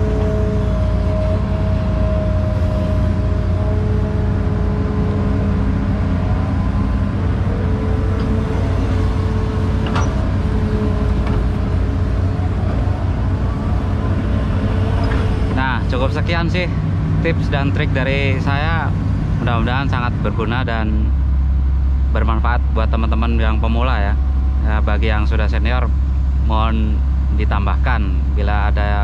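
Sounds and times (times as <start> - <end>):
diesel engine rumble: 0.0 - 29.0
hydraulic whine: 0.0 - 29.0.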